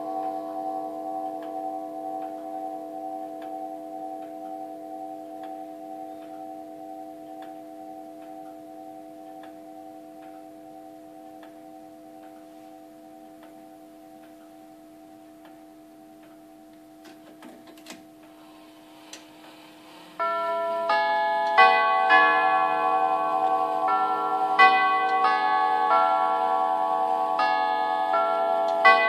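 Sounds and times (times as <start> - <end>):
tubular chime bells: 0.0 - 17.0, 20.2 - 29.0
grandfather clock ticking: 0.0 - 18.4, 19.1 - 29.0.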